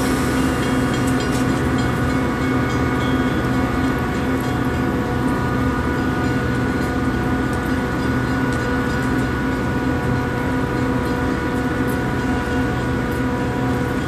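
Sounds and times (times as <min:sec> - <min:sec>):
diesel train engine humming: 0:00.0 - 0:14.0.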